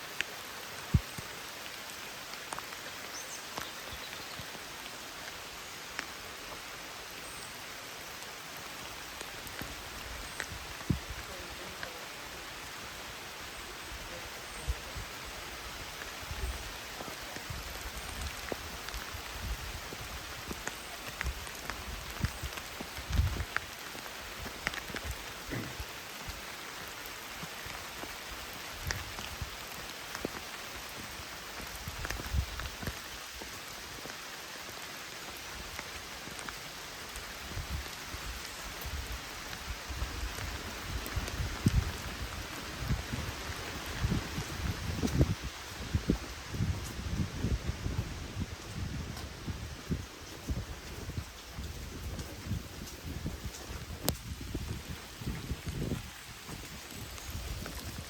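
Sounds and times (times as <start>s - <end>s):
steady rain falling: 0.0s - 58.0s
raindrop ticks: 0.1s - 6.6s, 8.2s - 12.0s, 15.8s - 45.4s, 48.6s - 58.0s.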